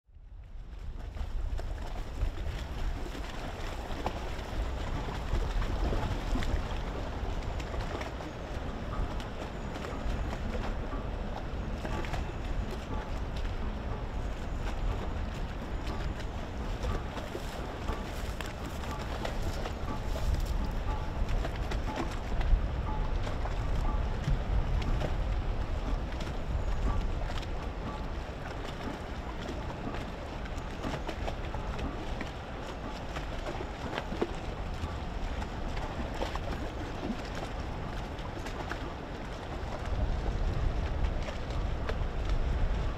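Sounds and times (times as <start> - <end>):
wind buffeting microphone: 0.2 - 42.9.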